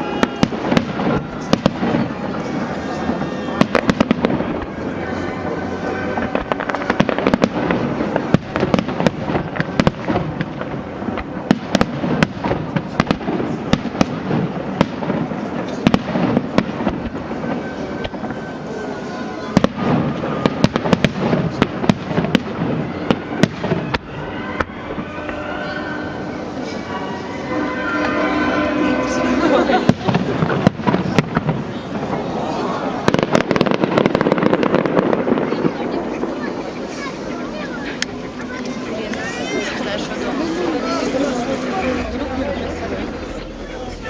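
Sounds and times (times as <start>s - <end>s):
crackling rumble: 0.0s - 44.0s
fireworks bursting: 0.0s - 44.0s.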